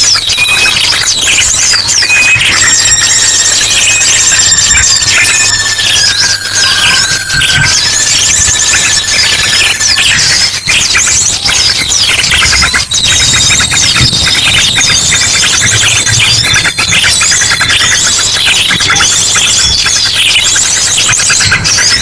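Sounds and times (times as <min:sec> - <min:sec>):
drongo calls: 0:00.0 - 0:22.0
even bird trill: 0:00.0 - 0:22.0
small birds chattering and squeaking: 0:00.0 - 0:22.0.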